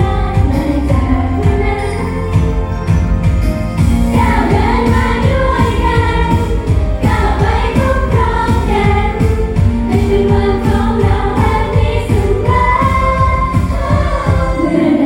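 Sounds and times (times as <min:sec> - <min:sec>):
woman singing: 0:00.0 - 0:02.8, 0:04.2 - 0:15.0
pop backing track with beat: 0:00.0 - 0:15.0.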